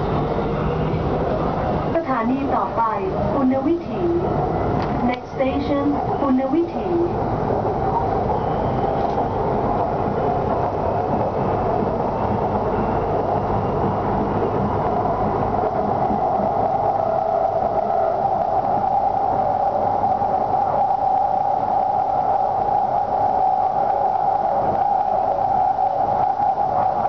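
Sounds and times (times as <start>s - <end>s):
train running noise: 0.0s - 27.0s
train whine: 0.0s - 27.0s.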